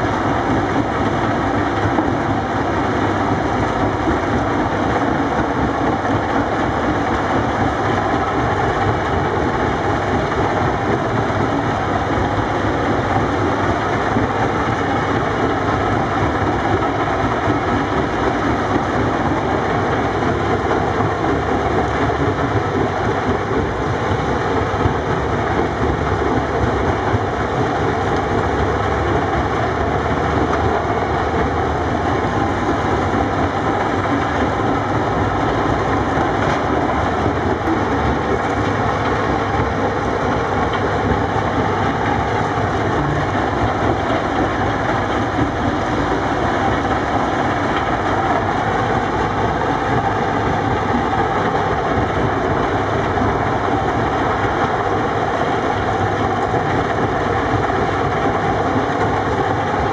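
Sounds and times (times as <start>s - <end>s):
diesel engines of heavy machinery: 0.0s - 59.9s
rock crusher running: 0.0s - 59.9s.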